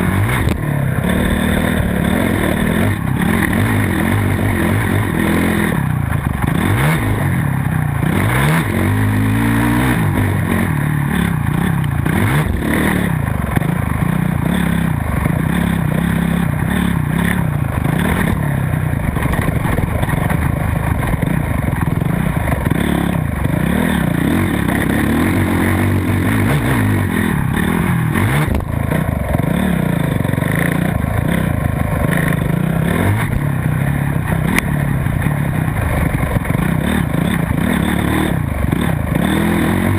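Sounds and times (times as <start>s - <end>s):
dirt bike engine racing: 0.0s - 39.9s.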